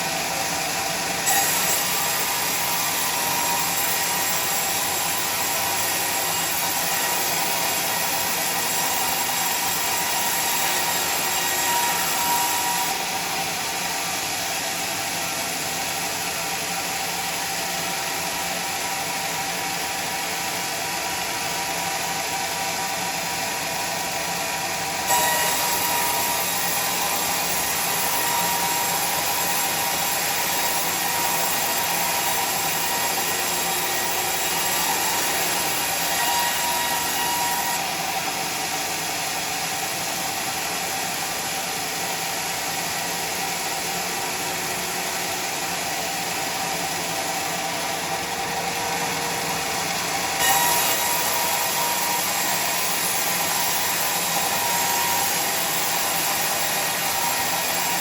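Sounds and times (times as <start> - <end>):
sawmill machinery whirring: 0.0 - 58.0.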